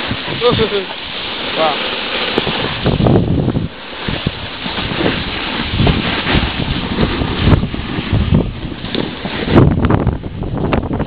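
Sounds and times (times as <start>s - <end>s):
skis scraping over snow: 0.0s - 11.0s
wind buffeting microphone: 0.0s - 11.0s.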